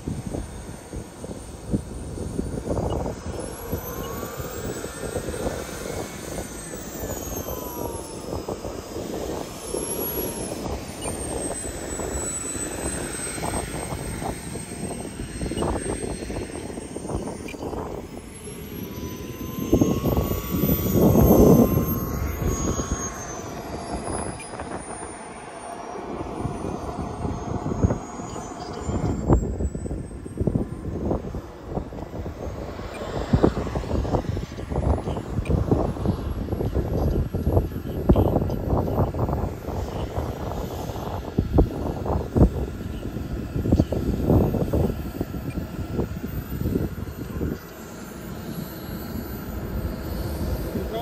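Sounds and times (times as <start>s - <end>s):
model jet turbine whining: 0.0s - 51.0s.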